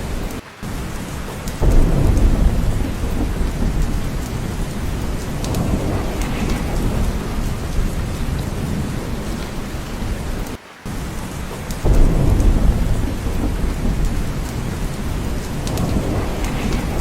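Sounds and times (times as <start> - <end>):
heavy rain: 0.0 - 17.0
low rumble of thunder: 0.0 - 17.0.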